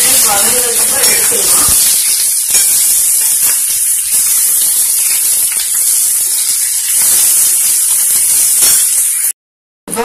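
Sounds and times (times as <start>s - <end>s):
vegetables sizzling in oil: 0.0s - 9.4s.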